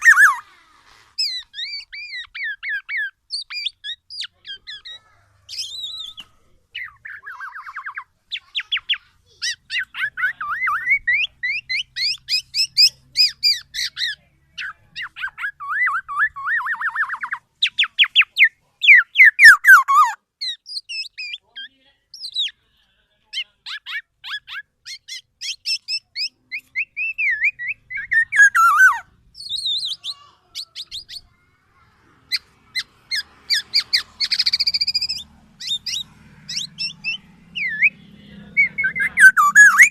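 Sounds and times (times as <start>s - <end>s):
bird singing chattering and whistles: 0.0s - 0.4s, 1.1s - 22.6s, 23.4s - 31.4s, 32.3s - 39.9s.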